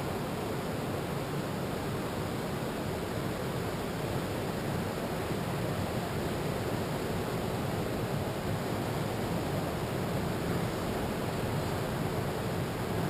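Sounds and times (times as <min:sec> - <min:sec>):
ocean surf on beach: 0:00.0 - 0:13.0.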